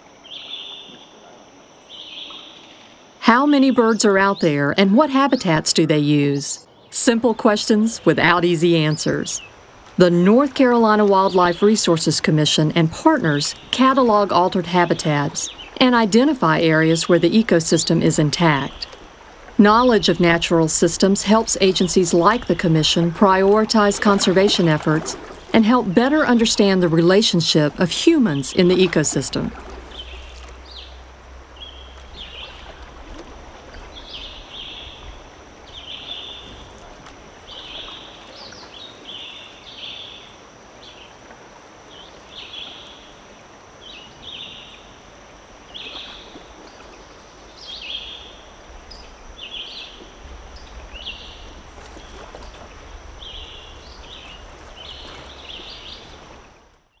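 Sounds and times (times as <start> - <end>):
songbirds chirping: 0.2 - 1.2, 1.8 - 41.2, 41.8 - 57.0.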